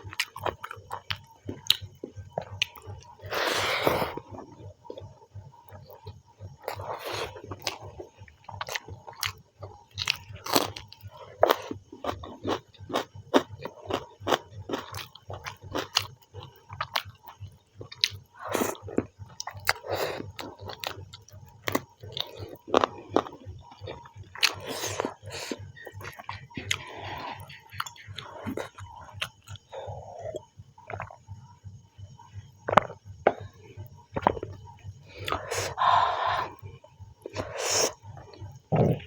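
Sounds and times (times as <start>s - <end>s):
person chewing food: 0.0s - 31.3s, 32.6s - 39.0s.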